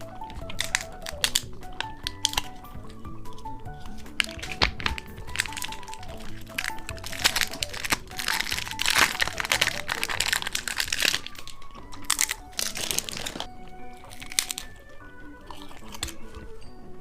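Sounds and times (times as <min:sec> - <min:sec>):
candy wrapper crinkling: 0:00.0 - 0:16.8
background music: 0:00.0 - 0:17.0.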